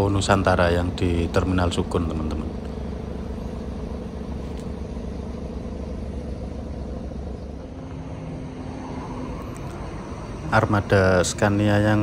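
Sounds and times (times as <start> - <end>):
bus engine low rumble: 0.0 - 12.0
faint steady hum: 0.0 - 12.0.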